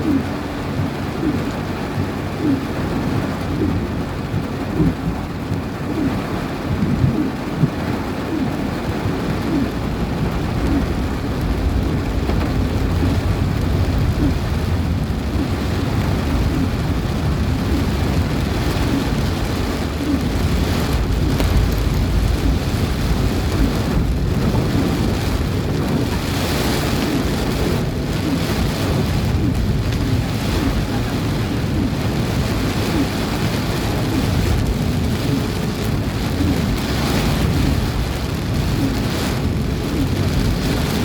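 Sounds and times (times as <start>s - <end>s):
deep rumble: 0.0s - 41.0s
heavy rain: 0.0s - 41.0s
strong wind: 0.0s - 41.0s.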